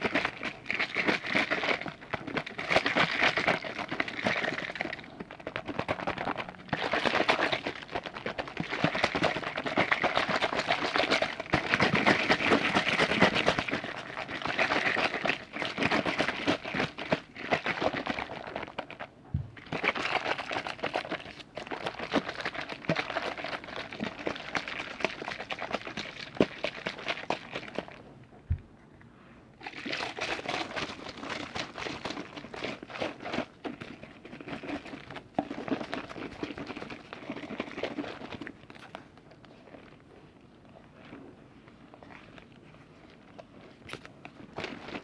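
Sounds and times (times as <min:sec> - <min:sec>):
liquid fine crackling: 0:00.0 - 0:28.0, 0:29.6 - 0:45.0.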